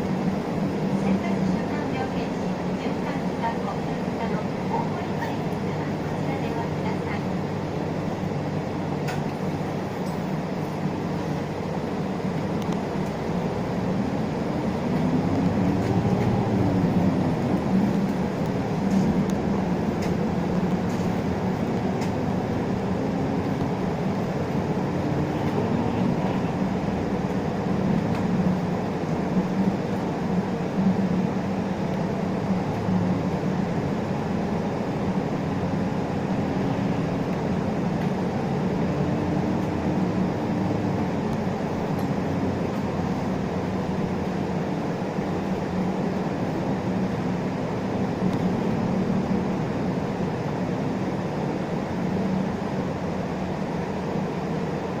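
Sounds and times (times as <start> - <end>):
bus diesel engine: 0.0 - 55.0
road and tyre noise: 0.0 - 55.0.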